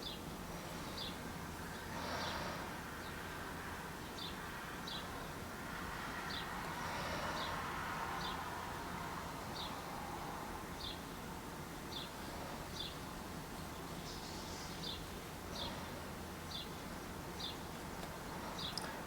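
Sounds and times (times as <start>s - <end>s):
faint background hum: 0.0s - 19.0s.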